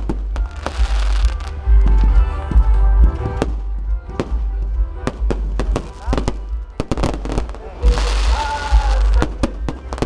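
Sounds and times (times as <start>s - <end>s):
fireworks bangs and crackles: 0.0s - 10.0s
music playing: 0.0s - 10.0s.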